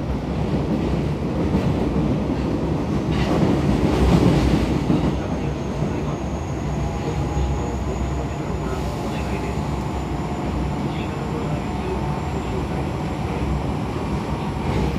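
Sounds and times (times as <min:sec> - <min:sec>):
subway wheels rumbling on rail: 0:00.0 - 0:14.9.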